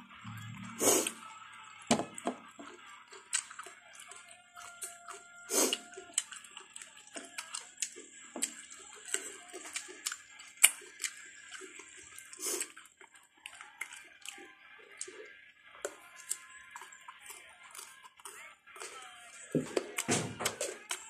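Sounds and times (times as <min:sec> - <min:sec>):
chewing soft fruit: 0:00.0 - 0:21.0.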